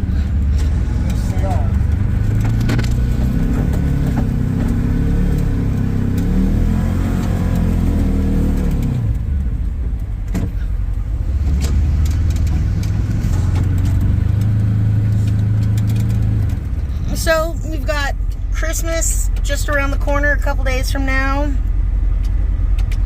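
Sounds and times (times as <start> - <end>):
utility vehicle engine revving: 0.0 - 23.0.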